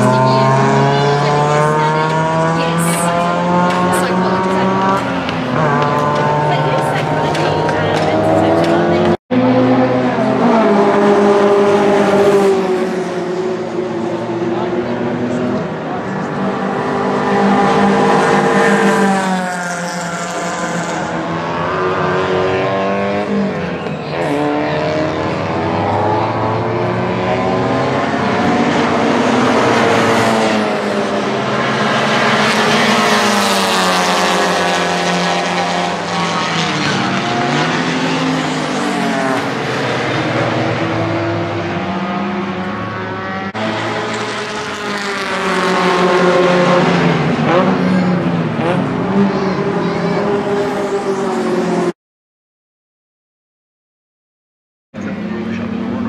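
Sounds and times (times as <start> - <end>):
race car engines revving and passing: 0.0 - 52.0, 55.0 - 56.0.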